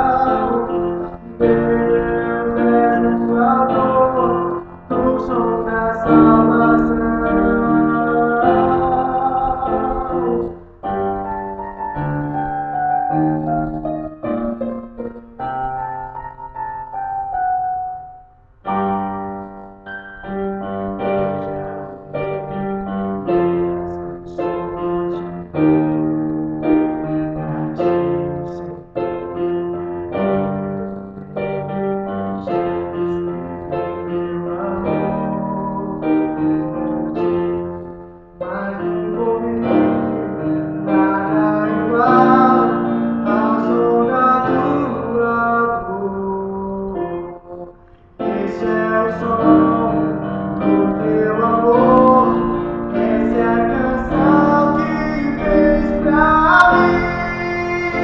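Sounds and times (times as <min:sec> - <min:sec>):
keyboard playing slow worship song: 0:00.0 - 0:58.0.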